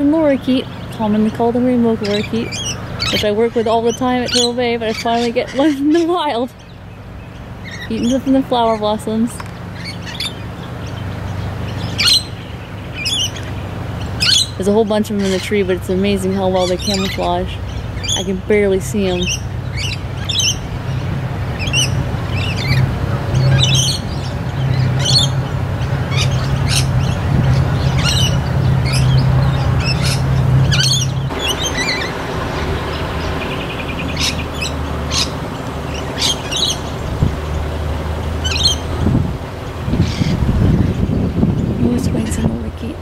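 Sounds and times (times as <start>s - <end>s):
low hum: 0.0s - 43.0s
parrots calling shrilly: 0.6s - 42.7s.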